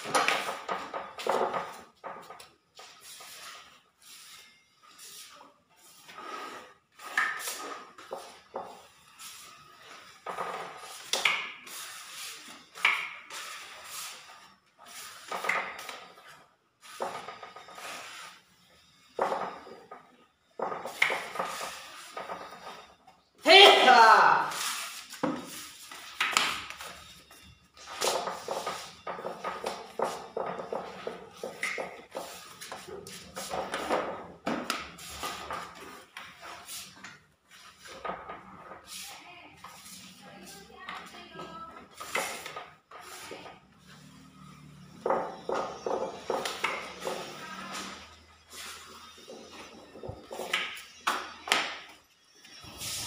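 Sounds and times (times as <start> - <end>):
spatula scraping plaster wall: 0.0 - 23.0, 26.8 - 51.6, 52.2 - 53.0.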